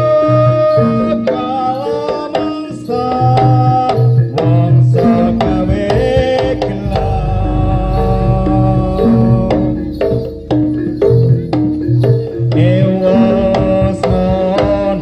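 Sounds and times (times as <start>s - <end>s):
gamelan music: 0.0s - 15.0s
hand drum strokes: 0.0s - 15.0s.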